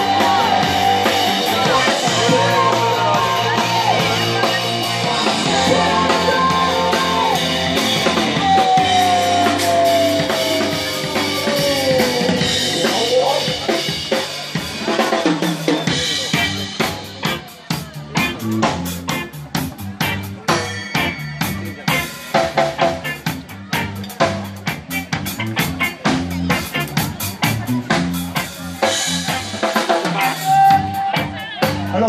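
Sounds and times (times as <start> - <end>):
drum kit beat: 0.0 - 32.0
live rock band playing: 0.0 - 32.0.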